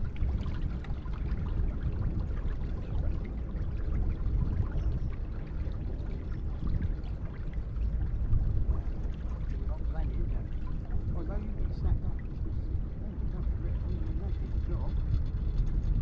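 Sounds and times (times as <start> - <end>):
water rushing along boat hull: 0.0 - 16.0.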